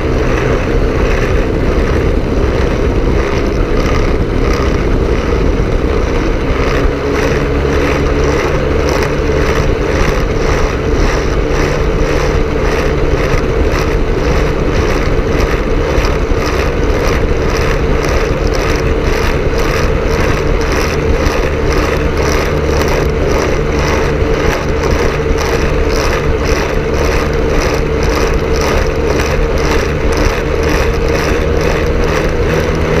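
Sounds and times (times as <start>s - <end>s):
aircraft engine and propeller drone: 0.0s - 33.0s.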